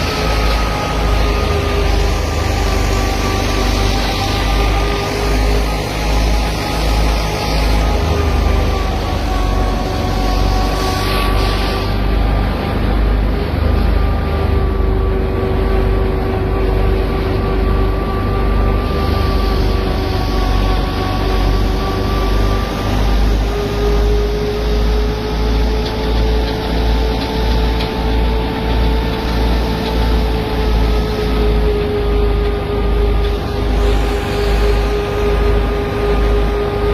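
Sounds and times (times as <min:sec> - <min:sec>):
thresher rumbling with mechanical whine: 0:00.0 - 0:36.9.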